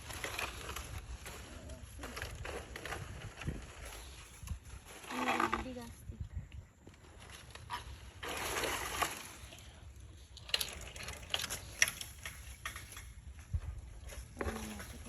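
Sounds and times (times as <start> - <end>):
leafy branches rustling: 0.0 - 15.0.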